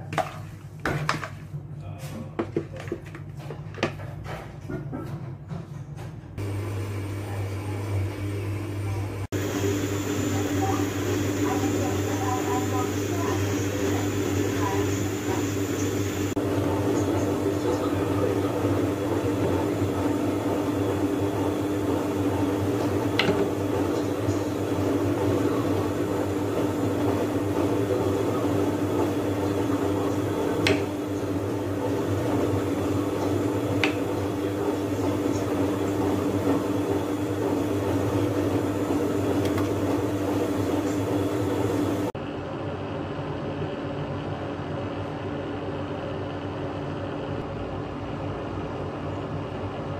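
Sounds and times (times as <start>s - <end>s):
kitchen appliance hum: 0.0s - 49.9s.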